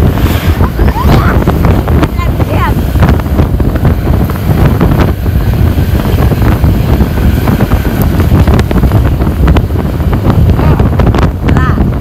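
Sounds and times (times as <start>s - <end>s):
bus engine rumbling: 0.0s - 12.0s
exhaust cracks: 0.0s - 12.0s.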